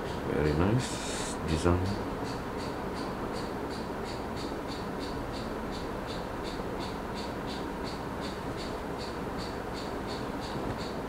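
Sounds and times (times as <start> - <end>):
faint high machine ticking: 0.0 - 11.0.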